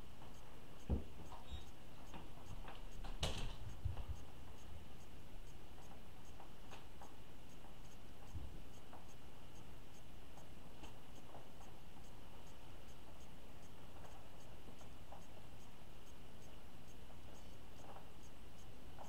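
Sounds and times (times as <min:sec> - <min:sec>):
faint regular ticking: 0:00.0 - 0:19.0
steady low hiss: 0:00.0 - 0:19.0.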